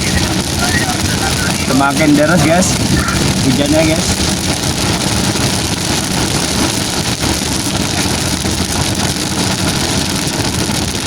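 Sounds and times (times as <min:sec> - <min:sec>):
heavy rain hiss: 0:00.0 - 0:11.0
vehicle engine rumble: 0:00.0 - 0:11.0.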